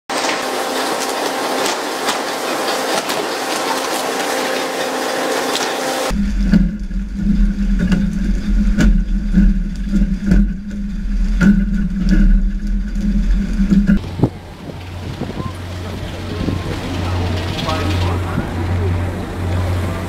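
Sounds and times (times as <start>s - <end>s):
boat engine droning: 0.1s - 20.0s.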